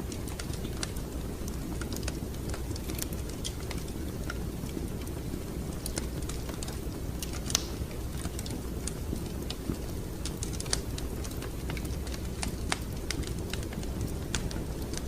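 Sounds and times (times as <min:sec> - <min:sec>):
low rumble of burning fire: 0:00.0 - 0:15.0
wood fire crackling and popping: 0:00.0 - 0:15.0.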